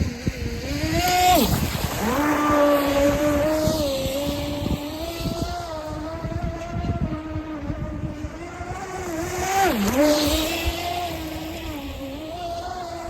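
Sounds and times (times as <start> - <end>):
rc boat electric motor whining: 0.0 - 13.0.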